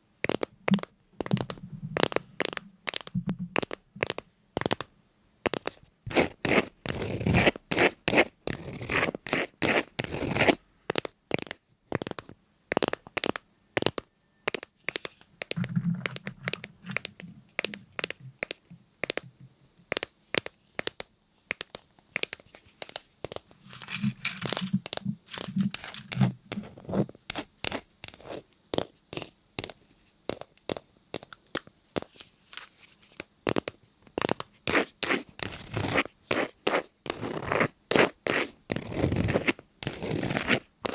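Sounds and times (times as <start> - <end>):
crackles clicks and tearing scrapes: 0.2 - 4.9, 5.5 - 19.3, 20.0 - 40.9.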